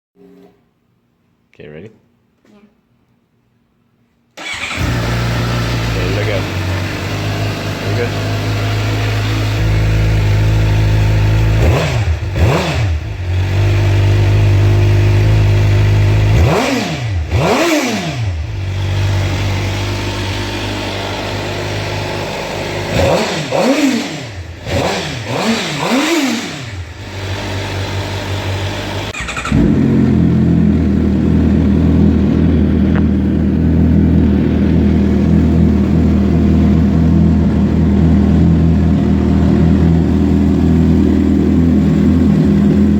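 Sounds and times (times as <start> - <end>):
motorcycle engine idling and revving: 4.4 - 42.9.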